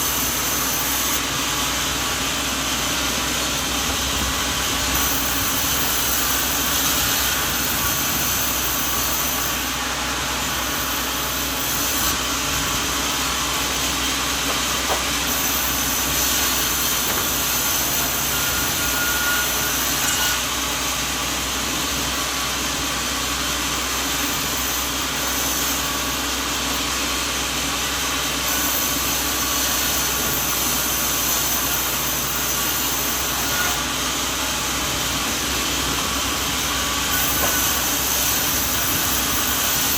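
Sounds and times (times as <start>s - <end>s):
noisy machine hiss: 0.0s - 39.9s.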